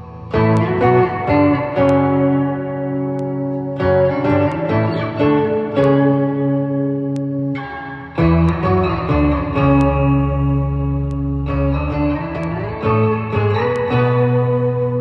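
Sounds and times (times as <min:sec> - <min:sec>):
electric guitar chords with effects: 0:00.0 - 0:15.0.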